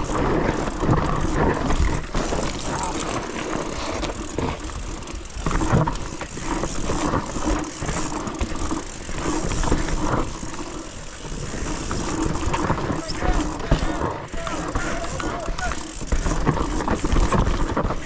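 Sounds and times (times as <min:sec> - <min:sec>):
bike knocking and rattling: 0:00.0 - 0:18.0
bike tyres rolling over dirt: 0:00.0 - 0:18.0.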